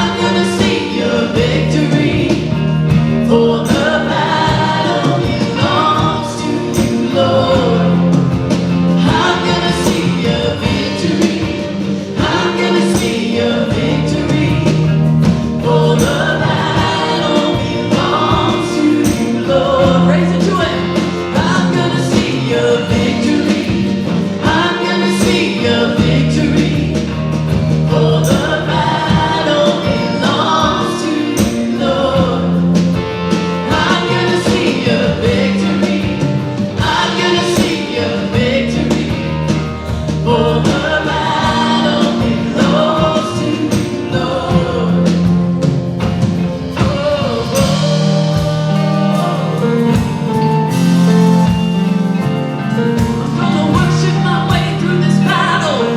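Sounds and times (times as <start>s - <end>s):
people singing: 0.0s - 55.9s
regular drum beat: 0.0s - 55.9s
sustained bass notes: 0.0s - 55.9s.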